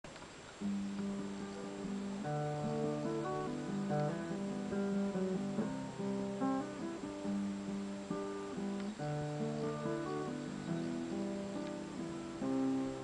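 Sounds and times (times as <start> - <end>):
acoustic guitar chords: 0.2 - 13.0.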